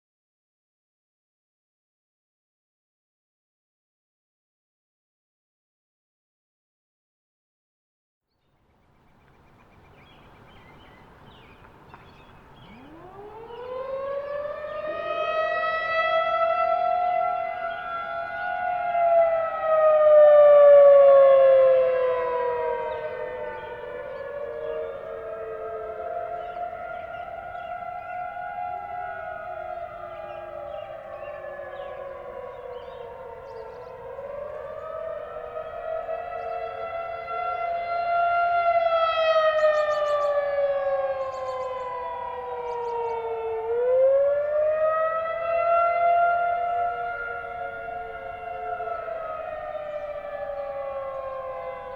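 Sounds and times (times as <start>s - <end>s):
distant warning siren wailing: 8.9s - 51.9s.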